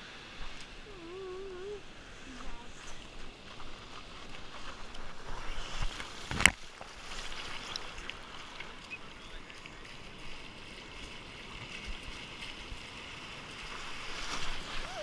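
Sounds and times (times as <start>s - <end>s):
surf rushing and splashing: 0.0s - 15.0s.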